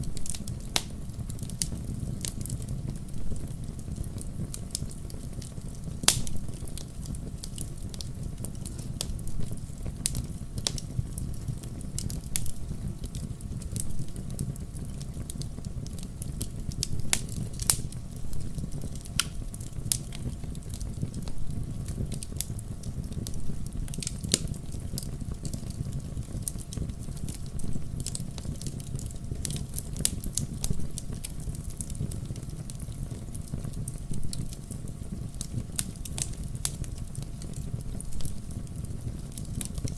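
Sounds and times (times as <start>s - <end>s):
campfire crackles and pops: 0.0s - 39.9s
low rumble of flames: 0.0s - 39.9s.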